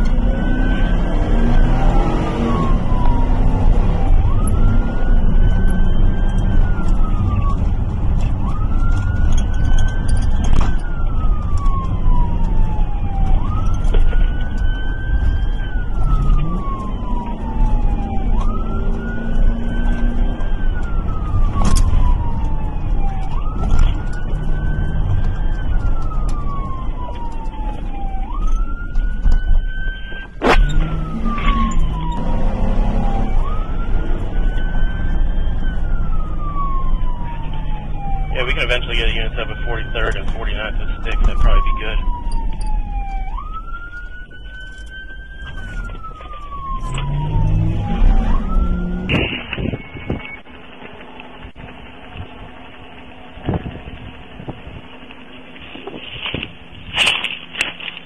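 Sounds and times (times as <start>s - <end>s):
engine and road noise: 0.0s - 58.0s
police siren wailing: 0.0s - 58.0s.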